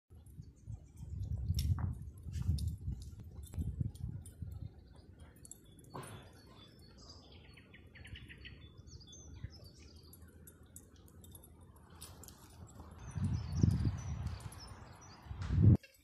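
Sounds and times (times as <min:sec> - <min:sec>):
songbirds chirping and whistling: 0:00.2 - 0:15.6.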